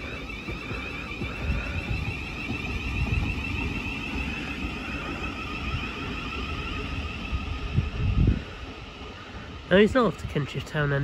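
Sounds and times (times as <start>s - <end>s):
high electrical whine: 0.0s - 11.0s
low train rumble: 0.0s - 11.0s.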